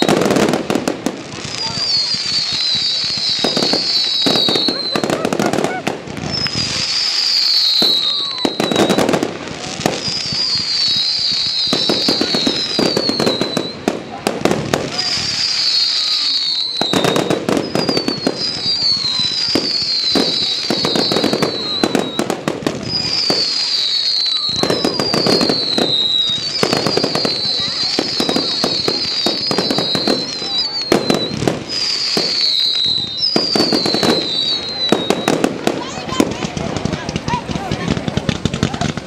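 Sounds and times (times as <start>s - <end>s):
firework bangs and crackling: 0.0s - 39.0s
firework whistles falling: 0.0s - 39.0s.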